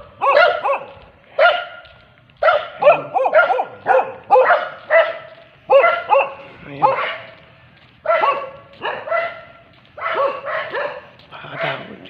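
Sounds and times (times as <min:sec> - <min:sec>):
dog barking: 0:00.0 - 0:01.8, 0:02.4 - 0:07.4, 0:08.0 - 0:12.0.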